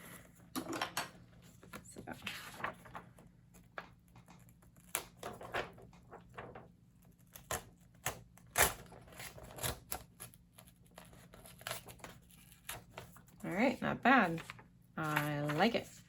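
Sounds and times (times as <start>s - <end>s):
paper crackling: 1.5s - 16.0s.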